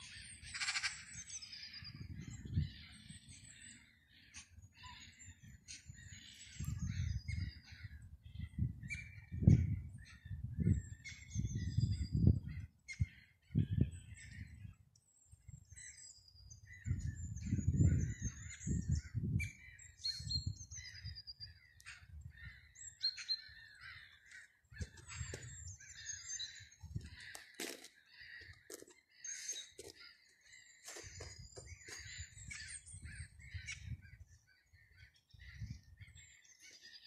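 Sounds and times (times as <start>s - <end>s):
wild birds chirping and trilling: 0.0s - 37.0s.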